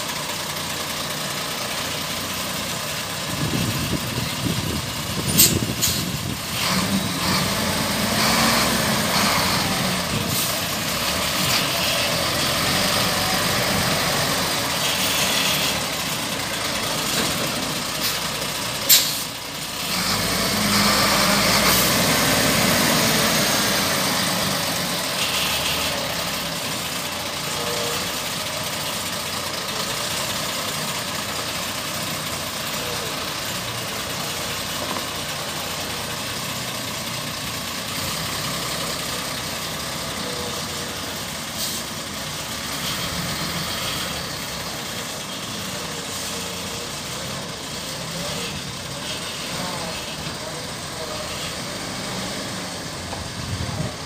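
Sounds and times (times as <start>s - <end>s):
crane diesel engine running: 0.0s - 54.0s.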